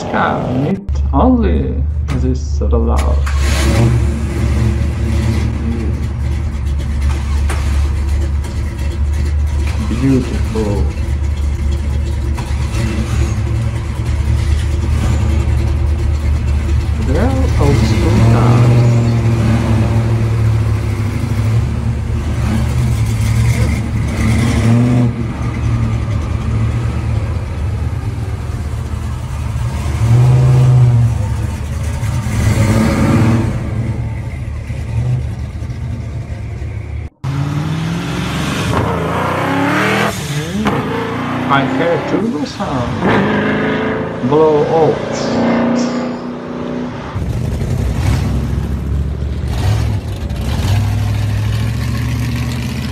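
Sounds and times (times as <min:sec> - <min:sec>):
car engines idling: 0:00.0 - 0:52.9.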